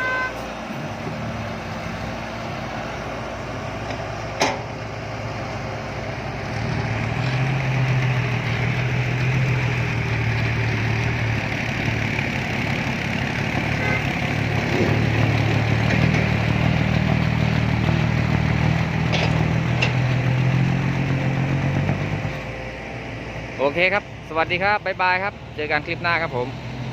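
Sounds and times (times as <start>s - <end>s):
diesel truck engine rumbling: 0.0s - 26.9s.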